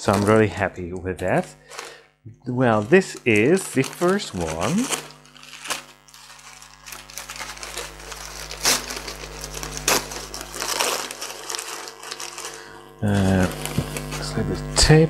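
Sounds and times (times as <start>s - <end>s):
packing tape pulled open: 0.0s - 0.6s, 1.2s - 2.0s, 2.6s - 14.4s
paper rustling and crinkling: 0.0s - 0.6s, 1.2s - 2.0s, 2.6s - 14.4s.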